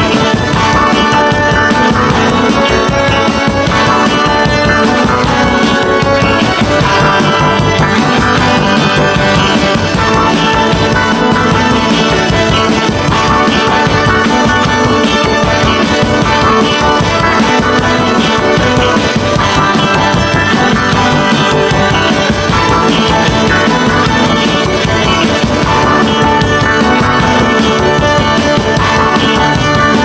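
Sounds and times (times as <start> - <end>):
band music with steady beat: 0.0 - 30.0.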